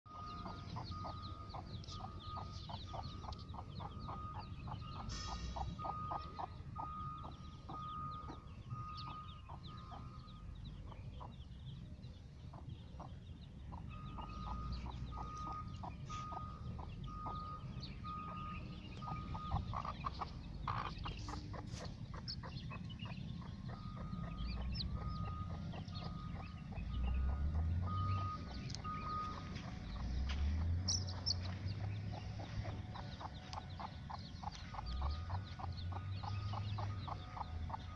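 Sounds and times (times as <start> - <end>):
chicks peeping: 0.1 - 37.9
hen clucking: 0.1 - 37.9.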